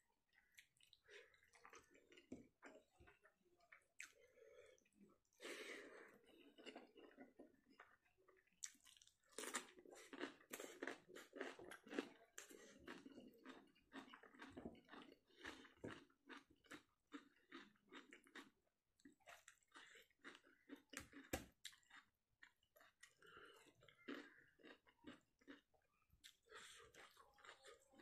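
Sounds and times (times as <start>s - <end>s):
wet chewing: 0.4s - 28.0s.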